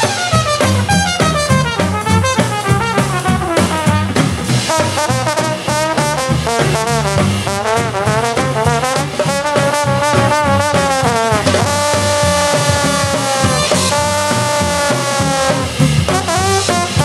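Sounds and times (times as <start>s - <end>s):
swing band playing: 0.0s - 17.0s
trombone melody with sliding notes: 0.0s - 17.0s.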